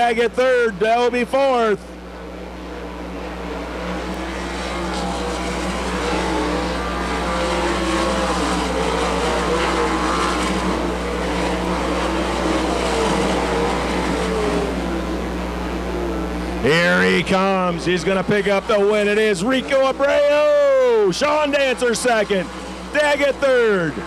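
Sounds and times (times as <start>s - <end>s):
racing car engines: 0.0s - 24.0s.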